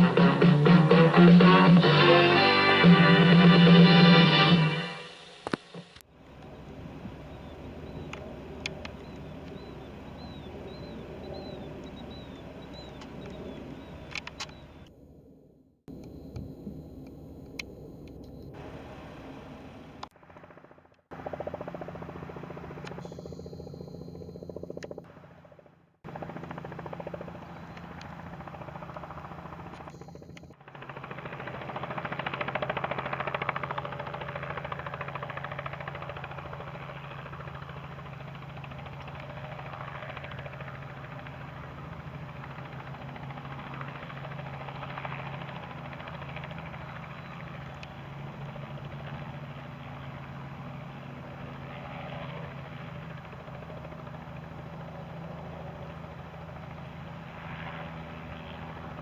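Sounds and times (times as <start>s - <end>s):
helicopter rotor noise: 0.0s - 15.2s, 15.9s - 59.0s
helicopter engine hum: 0.0s - 59.0s.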